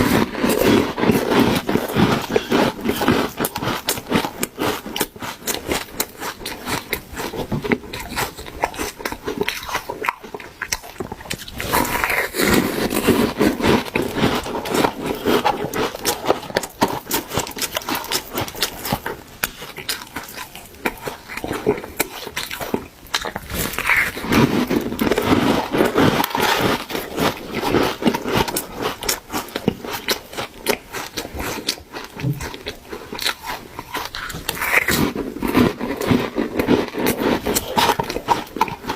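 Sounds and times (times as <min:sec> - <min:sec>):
person chewing shaved ice: 0:00.0 - 0:38.9.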